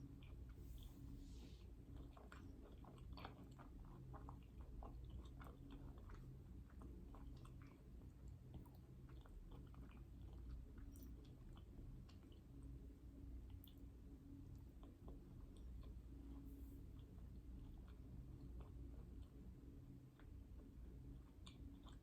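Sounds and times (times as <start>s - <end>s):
close-up chewing mouth clicks: 0.0s - 1.0s, 1.6s - 12.8s, 13.4s - 22.0s
low steady hum: 0.0s - 22.0s.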